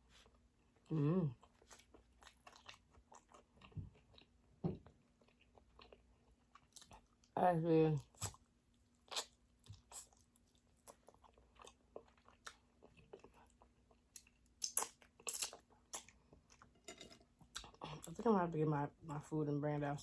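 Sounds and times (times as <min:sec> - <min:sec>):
chewing and crunching: 0:00.1 - 0:07.4, 0:08.0 - 0:18.2.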